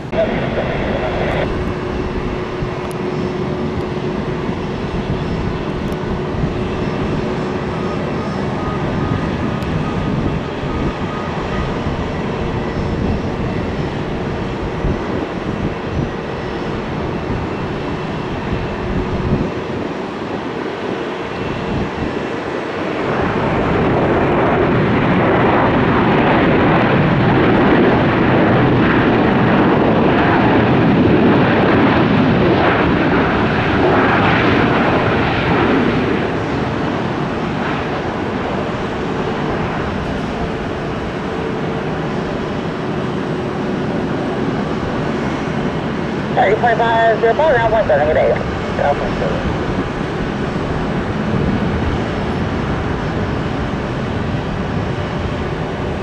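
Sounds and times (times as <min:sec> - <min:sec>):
jet engine noise: 0:00.0 - 0:56.0.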